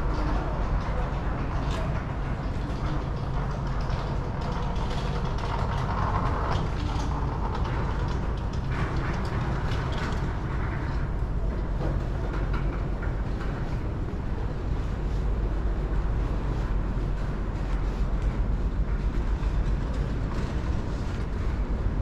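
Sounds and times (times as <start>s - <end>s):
vehicle traffic rumble: 0.0s - 22.0s.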